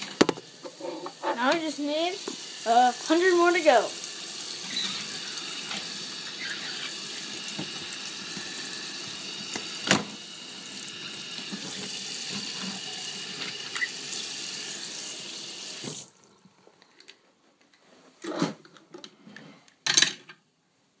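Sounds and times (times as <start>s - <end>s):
tap water running into basin: 0.0s - 16.9s.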